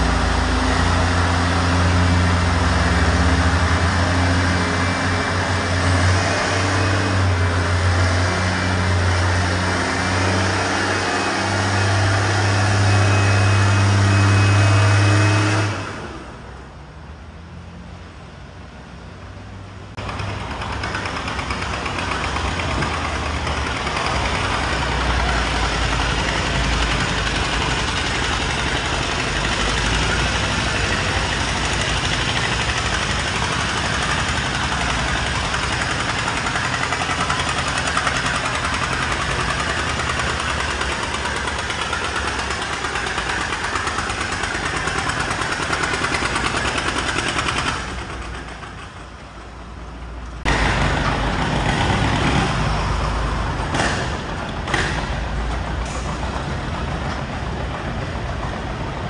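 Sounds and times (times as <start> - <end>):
tractor engines under load: 0.0 - 59.0.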